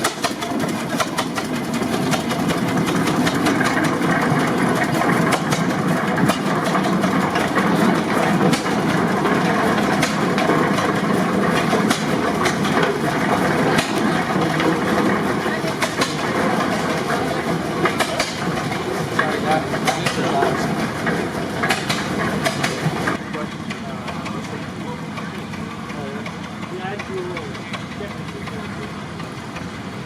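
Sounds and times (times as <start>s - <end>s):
clatter of ticks and knocks: 0.0s - 24.6s
tractor engine running: 0.0s - 30.0s.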